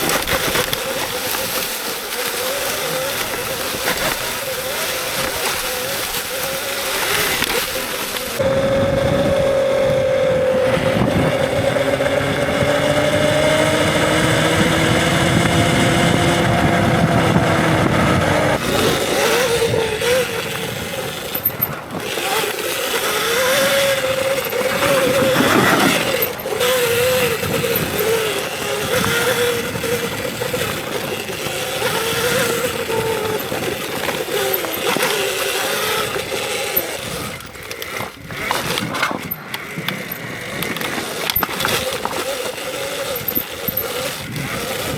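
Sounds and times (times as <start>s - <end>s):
electric dirt bike motor whining: 0.0s - 44.9s
wind and tyre noise: 0.0s - 44.9s.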